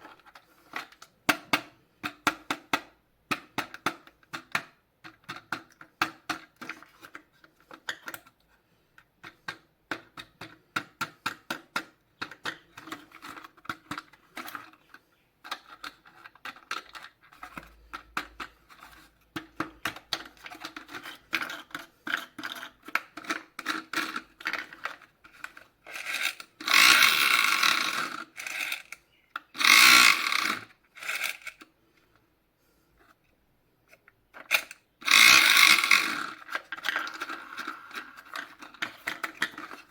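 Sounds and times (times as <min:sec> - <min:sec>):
plastic toys clicking and tapping: 0:00.0 - 0:31.7, 0:33.9 - 0:39.9.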